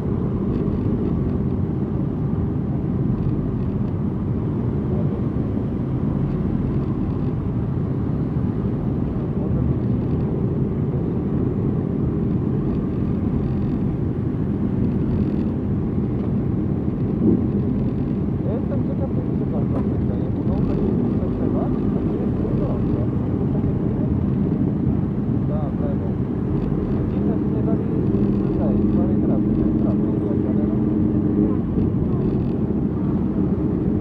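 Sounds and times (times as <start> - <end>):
motorcycles low rumble: 0.0 - 34.0.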